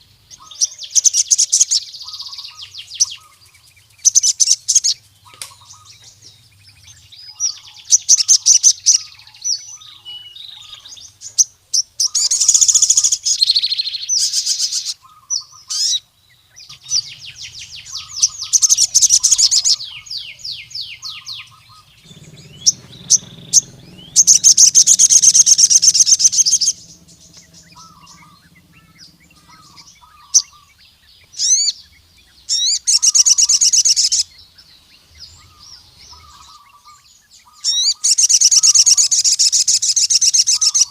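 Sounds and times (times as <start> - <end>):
sunbird singing high trills: 0.0 - 40.9.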